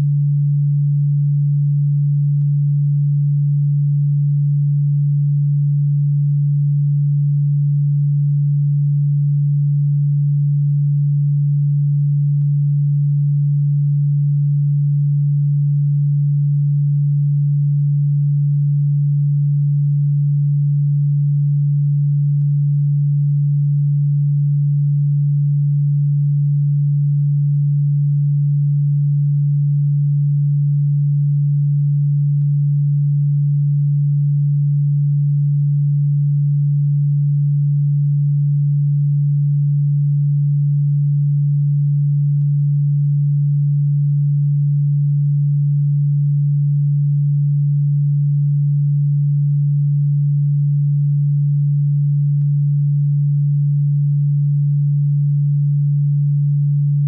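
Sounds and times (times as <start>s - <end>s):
low electronic pure tone: 0.0s - 57.0s.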